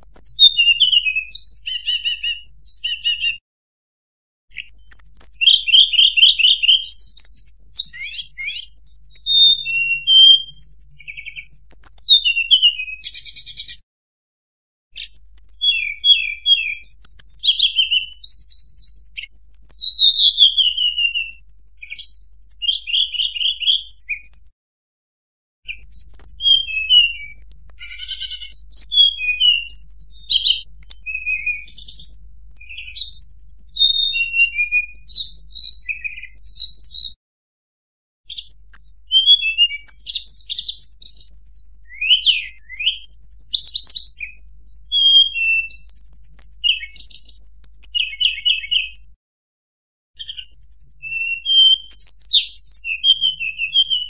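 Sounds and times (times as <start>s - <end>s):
bird song chirps and trills: 0.0s - 3.4s, 4.5s - 13.8s, 14.9s - 24.5s, 25.6s - 37.2s, 38.3s - 49.2s, 50.2s - 54.0s.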